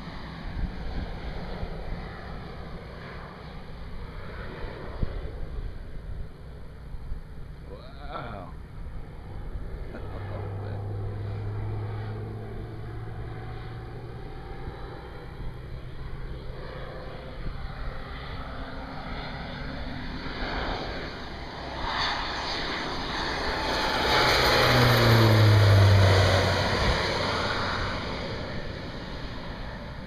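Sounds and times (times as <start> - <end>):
propeller plane passing low: 0.0 - 30.0.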